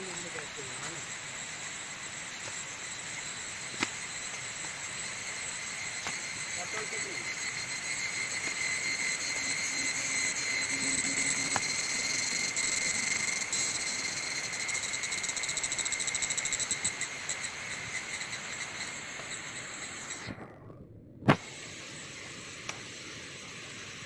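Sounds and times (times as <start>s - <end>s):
insects chorus: 0.0s - 20.6s, 21.3s - 24.0s.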